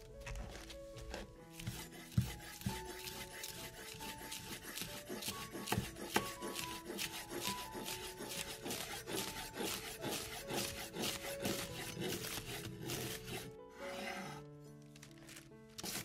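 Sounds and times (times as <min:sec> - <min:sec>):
soft background music: 0:00.0 - 0:16.0
cabbage scraped across board: 0:01.0 - 0:14.5, 0:15.8 - 0:16.0
knife slicing cabbage on wood: 0:01.1 - 0:14.1, 0:15.8 - 0:16.0.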